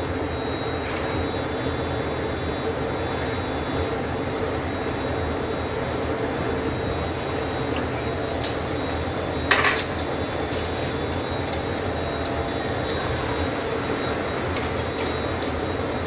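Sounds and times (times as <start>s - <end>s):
constant low hum: 0.0s - 16.0s
gas torch flame roaring: 2.2s - 16.0s.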